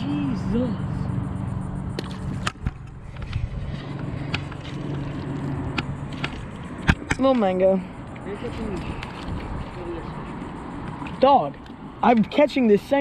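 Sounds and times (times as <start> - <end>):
low engine-like hum: 0.0 - 12.2.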